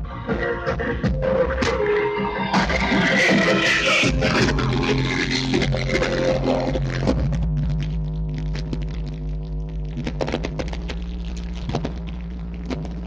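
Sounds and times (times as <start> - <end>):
deep subwoofer bass music: 0.0 - 13.0.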